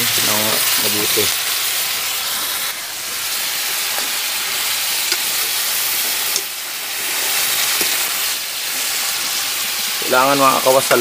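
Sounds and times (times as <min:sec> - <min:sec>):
heavy rain hiss: 0:00.0 - 0:11.0
snails sizzling in a wok: 0:00.0 - 0:11.0.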